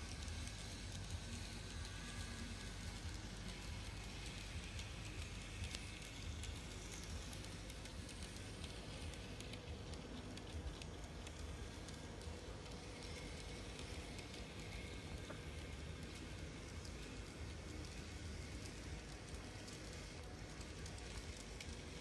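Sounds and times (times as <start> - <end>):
model train wheels clicking on rails: 0.0 - 22.0
quiet motor hum: 0.0 - 22.0.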